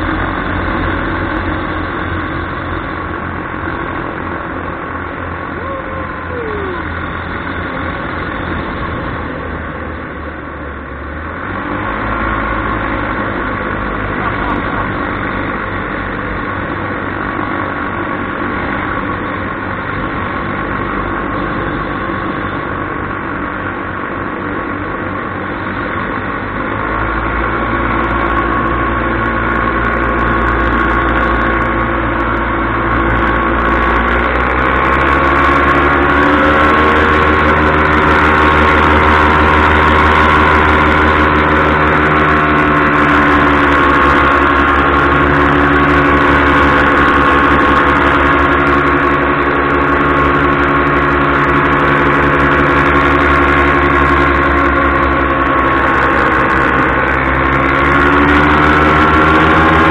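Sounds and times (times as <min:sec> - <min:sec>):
paramotor engine and propeller: 0:00.0 - 0:59.9.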